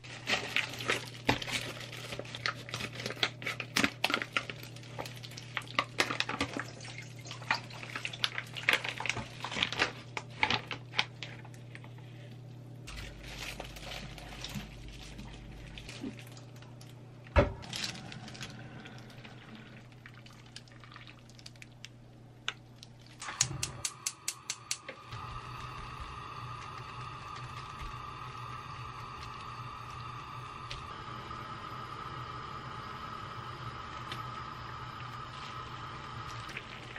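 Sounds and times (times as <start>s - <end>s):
steady hiss with faint hum: 0.0s - 36.9s.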